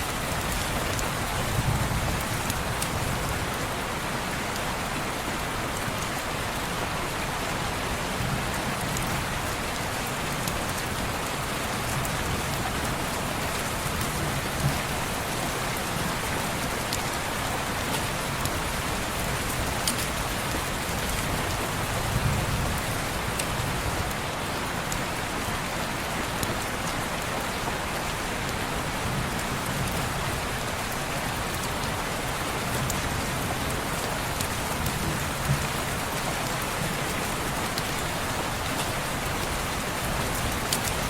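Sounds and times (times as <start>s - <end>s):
rain on a window: 0.0s - 41.0s.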